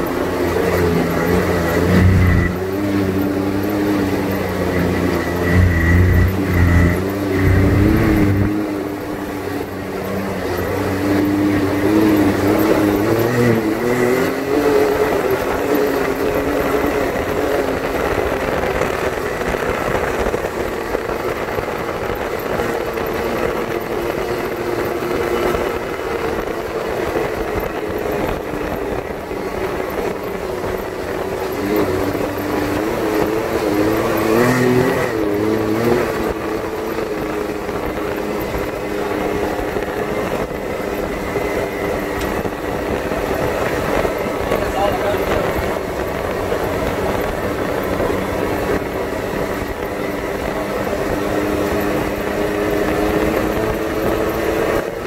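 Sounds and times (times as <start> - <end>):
tyre and wind noise: 0.0 - 55.0
vehicle engine revving: 0.0 - 55.0.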